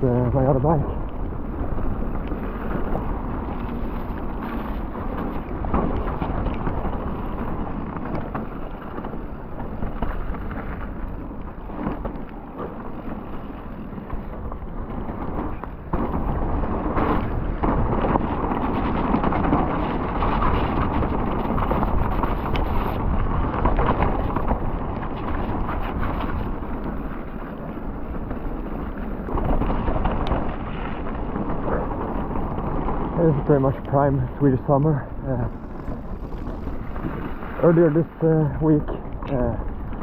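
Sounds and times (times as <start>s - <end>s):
bike tyre and trail noise: 0.0s - 40.0s
wind rushing over microphone: 0.0s - 40.0s.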